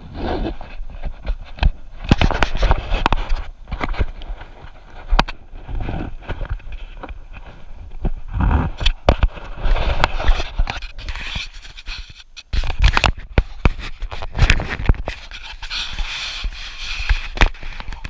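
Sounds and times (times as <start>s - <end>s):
rubbing noise on microphone: 0.0s - 18.0s.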